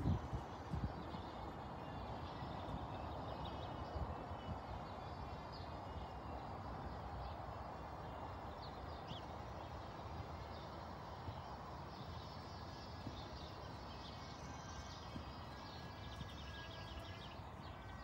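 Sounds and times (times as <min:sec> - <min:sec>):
steady background hiss: 0:00.0 - 0:18.0
small birds chirping: 0:00.1 - 0:18.0.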